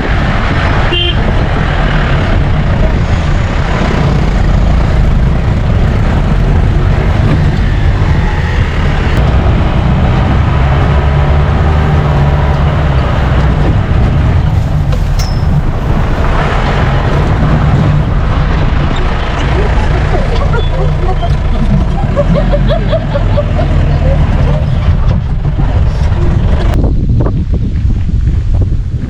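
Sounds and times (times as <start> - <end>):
jeep engine droning: 0.0 - 26.8.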